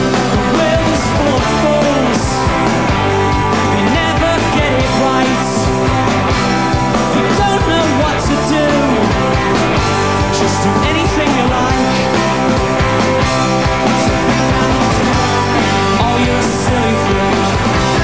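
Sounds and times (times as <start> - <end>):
bass and guitars: 0.0 - 18.0
steady drum beat: 0.0 - 18.0.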